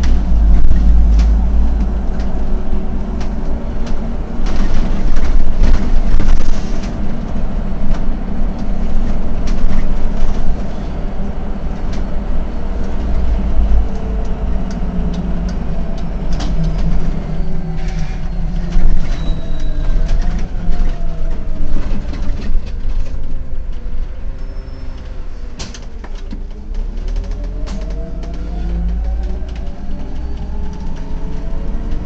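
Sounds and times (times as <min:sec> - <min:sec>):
bus engine running: 0:00.0 - 0:32.0.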